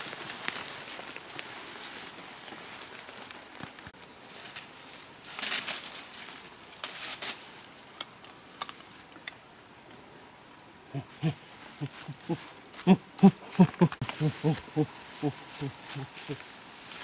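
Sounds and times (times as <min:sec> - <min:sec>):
shrub branches rustling: 0:00.0 - 0:09.3, 0:10.9 - 0:17.0.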